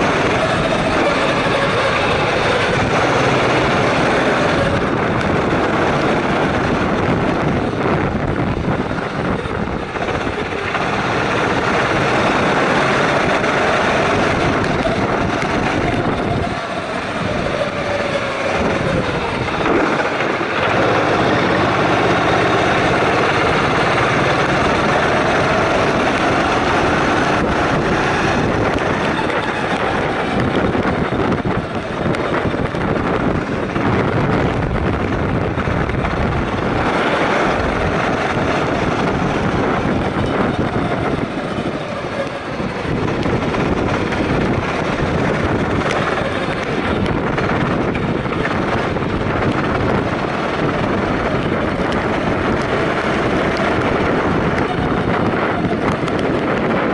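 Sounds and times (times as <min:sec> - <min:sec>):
go-kart engine revving: 0:00.0 - 0:56.9.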